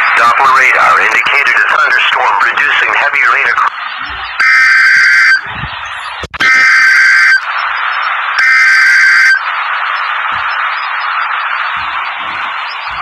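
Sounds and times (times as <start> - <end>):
digital data bursts: 0.0 - 13.0
radio hiss: 0.0 - 13.0.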